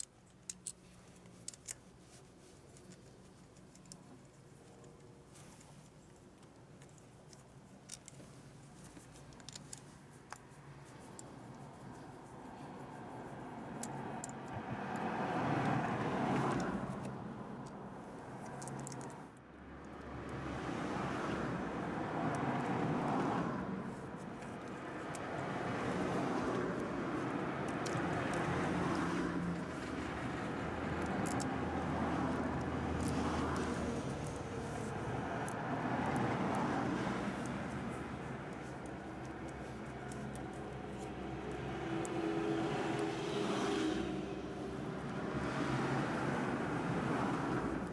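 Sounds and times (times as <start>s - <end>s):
road vehicles passing: 0.4s - 47.9s.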